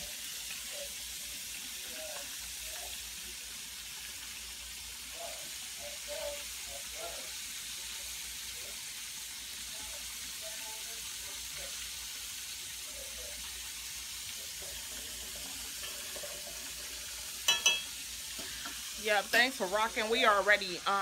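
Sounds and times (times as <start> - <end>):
chicken sizzling in a pan: 0.0 - 21.0.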